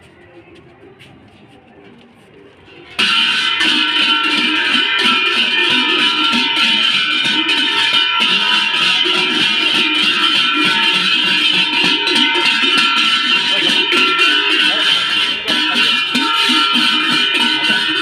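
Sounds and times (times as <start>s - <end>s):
loud plucked string music: 3.0s - 18.0s.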